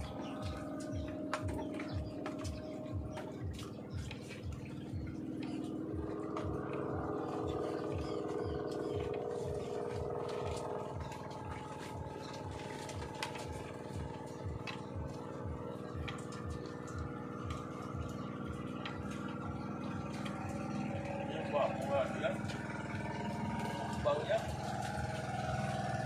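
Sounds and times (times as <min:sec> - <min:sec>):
engine droning with low thuds: 0:00.0 - 0:26.0.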